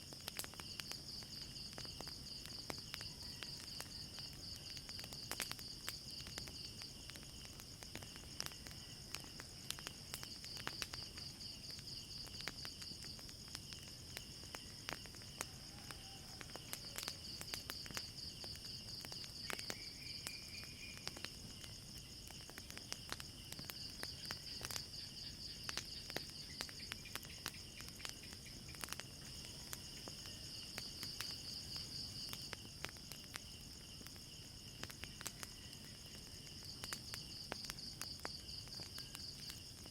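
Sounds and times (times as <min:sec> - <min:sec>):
night insects chirping: 0:00.0 - 0:39.9
wood fire crackling: 0:00.0 - 0:39.9.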